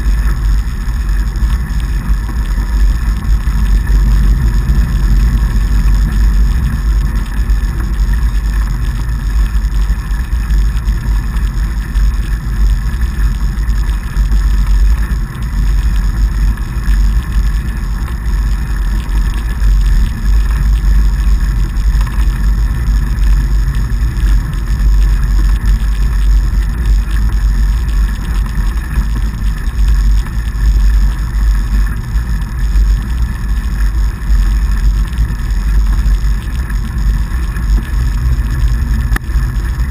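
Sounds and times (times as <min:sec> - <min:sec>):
wide tyres rolling on snow: 0:00.0 - 0:39.9.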